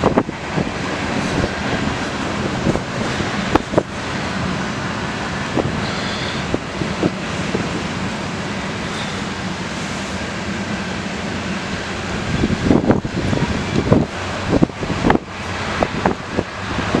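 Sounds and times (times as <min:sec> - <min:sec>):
train cars rolling on rails: 0:00.0 - 0:17.0
wind buffeting microphone: 0:00.0 - 0:17.0.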